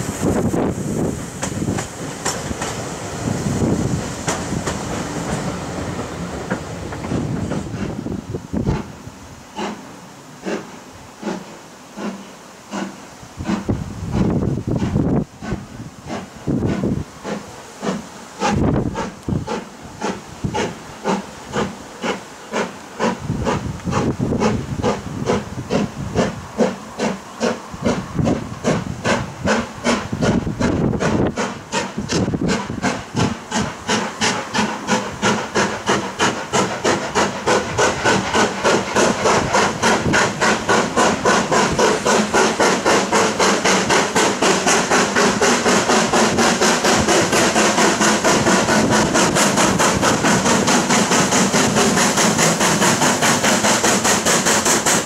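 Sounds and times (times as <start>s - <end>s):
steam hissing: 0.0s - 55.0s
steam locomotive exhaust beats: 0.0s - 55.0s.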